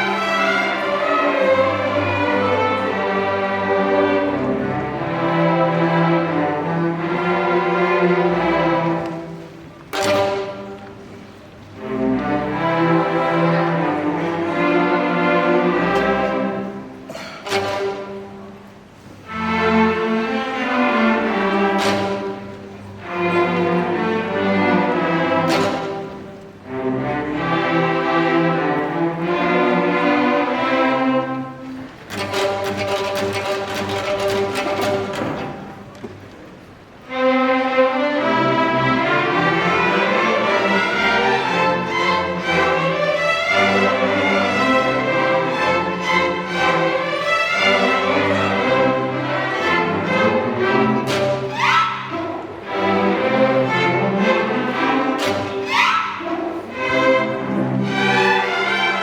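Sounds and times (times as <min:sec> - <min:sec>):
orchestra bowed string notes: 0:00.0 - 0:59.0.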